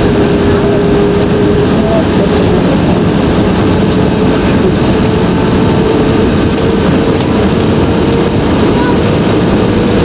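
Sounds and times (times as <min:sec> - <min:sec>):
engine whine: 0:00.0 - 0:10.0
jet engines roaring: 0:00.0 - 0:10.0.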